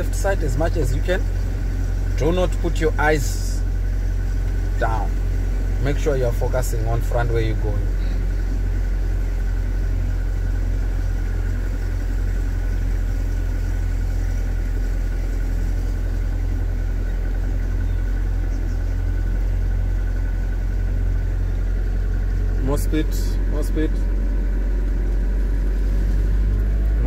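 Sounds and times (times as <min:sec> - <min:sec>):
faint constant whine: 0:00.0 - 0:27.0
vehicle engine low drone: 0:00.0 - 0:27.0.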